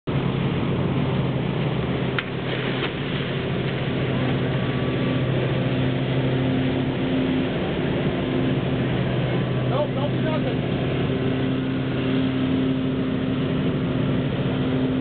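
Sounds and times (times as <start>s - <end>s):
boat engine idling: 0.1s - 15.0s.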